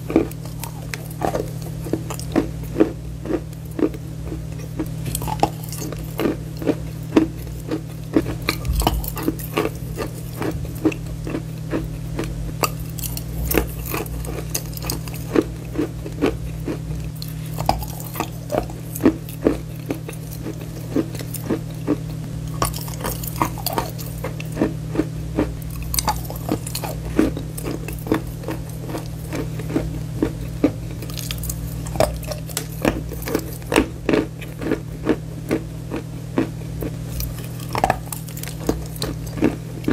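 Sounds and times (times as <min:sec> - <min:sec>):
chalk being crunched and chewed: 0:00.0 - 0:39.9
steady low hum: 0:00.0 - 0:39.9.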